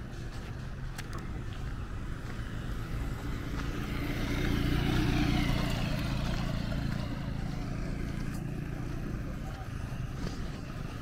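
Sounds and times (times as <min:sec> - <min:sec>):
vehicle passing on dirt road: 0:00.0 - 0:11.0.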